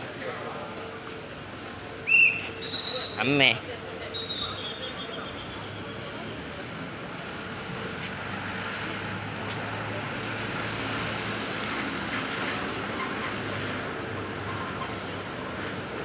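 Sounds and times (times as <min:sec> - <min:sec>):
traffic running by: 0:00.0 - 0:16.0.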